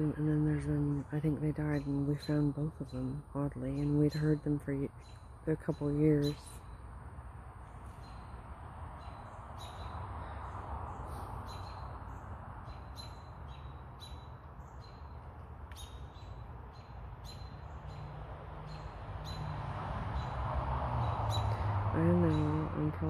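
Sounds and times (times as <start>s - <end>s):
bird chirping: 0.3s - 6.9s, 7.6s - 23.0s.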